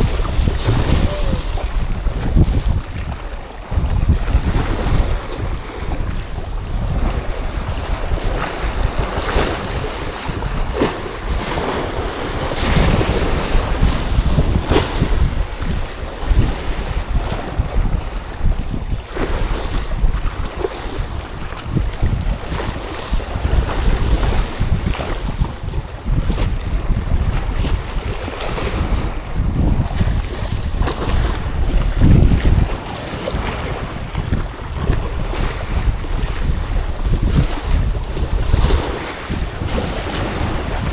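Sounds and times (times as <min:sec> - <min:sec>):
waves splashing: 0:00.0 - 0:40.9
wind buffeting microphone: 0:00.0 - 0:40.9.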